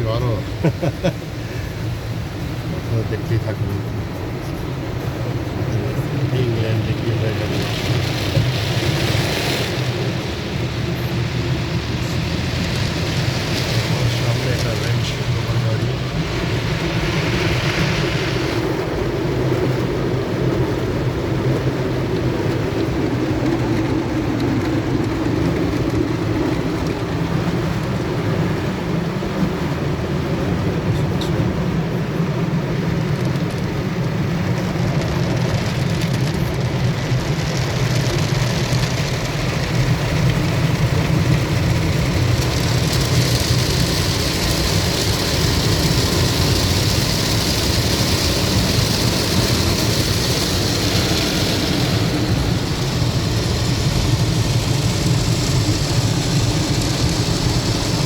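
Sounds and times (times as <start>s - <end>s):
car wash machinery: 0.0s - 58.0s
water spraying: 0.2s - 30.5s, 32.4s - 58.0s.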